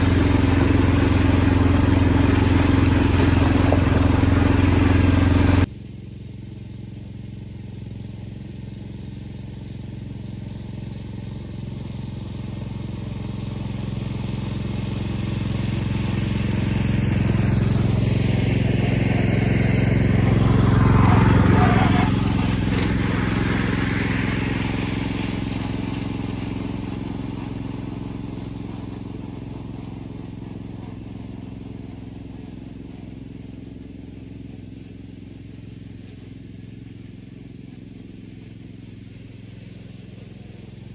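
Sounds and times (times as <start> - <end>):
garden tractor engine passing: 0.0 - 5.7, 10.2 - 40.9.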